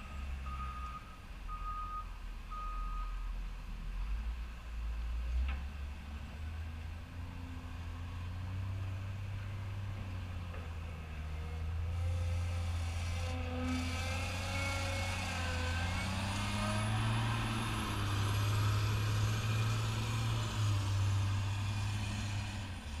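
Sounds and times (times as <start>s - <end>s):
wheel loader diesel engine: 0.0s - 23.0s.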